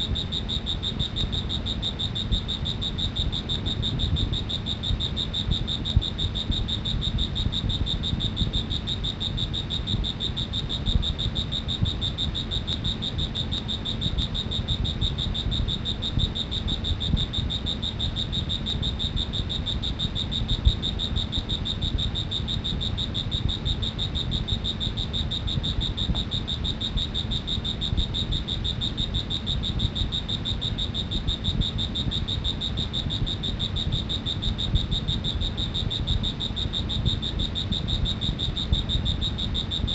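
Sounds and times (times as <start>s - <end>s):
low background rumble: 0.0s - 39.9s.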